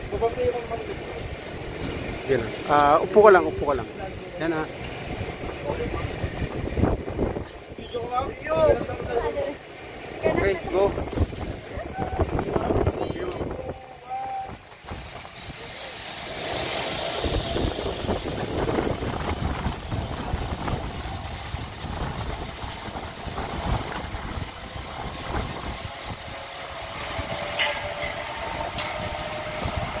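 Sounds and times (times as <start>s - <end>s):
zipline trolley rumbling whir: 0.0s - 30.0s.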